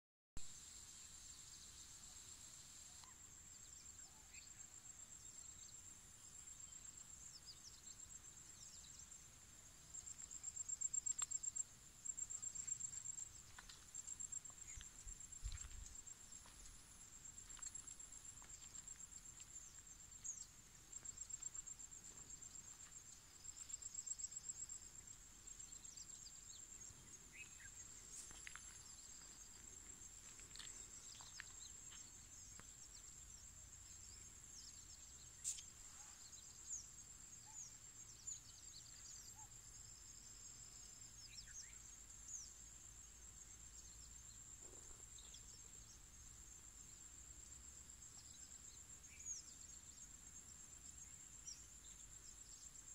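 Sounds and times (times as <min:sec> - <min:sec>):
crickets trilling: 0:00.6 - 0:52.9.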